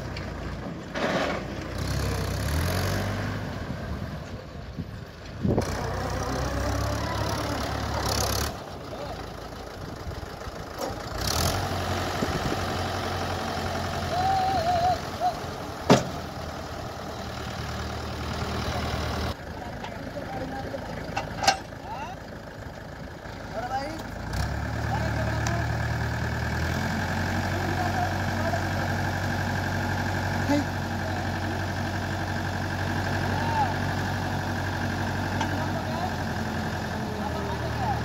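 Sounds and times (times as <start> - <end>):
diesel tractor engine running: 0.0 - 38.0.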